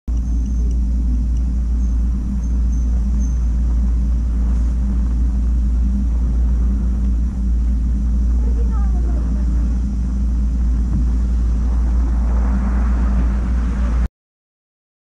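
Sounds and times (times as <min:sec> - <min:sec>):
wind buffeting microphone: 0:00.1 - 0:14.1.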